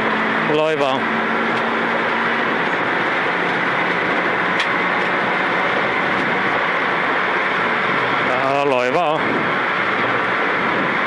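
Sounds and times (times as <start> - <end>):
car engine drone: 0.0 - 11.0.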